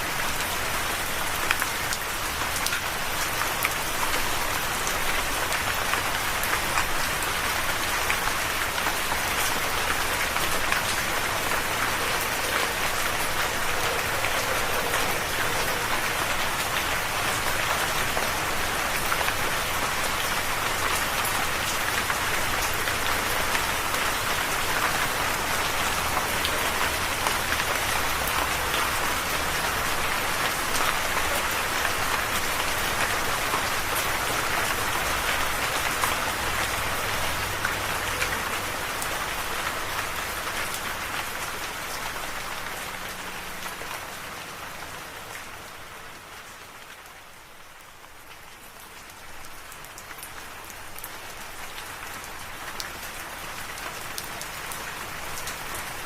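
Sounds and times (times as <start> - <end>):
rain pattering on a surface: 0.0 - 56.0.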